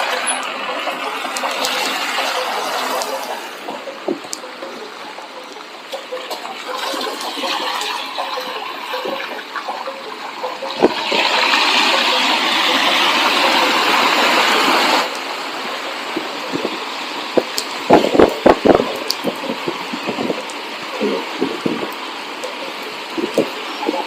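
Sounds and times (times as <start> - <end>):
loud rush of water spray: 0.0 - 5.1, 5.7 - 24.0
tyres hissing on wet road: 0.0 - 24.0.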